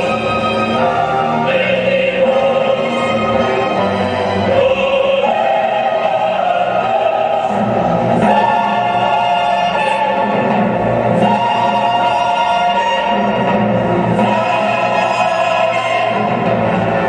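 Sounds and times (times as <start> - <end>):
choir holding long chords: 0.0 - 17.0.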